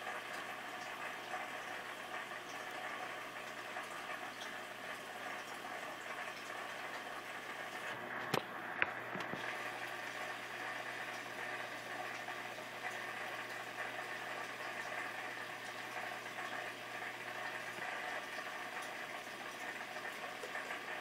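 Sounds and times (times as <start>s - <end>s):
aquarium water bubbling: 0.0s - 21.0s.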